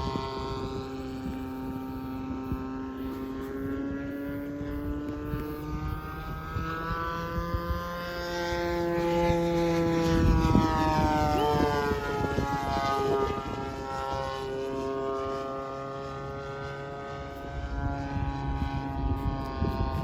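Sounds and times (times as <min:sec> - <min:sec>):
model airplane engine flying: 0:00.0 - 0:20.0.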